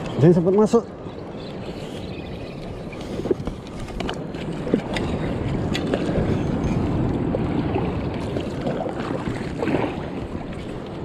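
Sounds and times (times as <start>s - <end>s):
wind buffeting microphone: 0.0s - 11.0s
water sloshing against kayak: 1.4s - 11.0s.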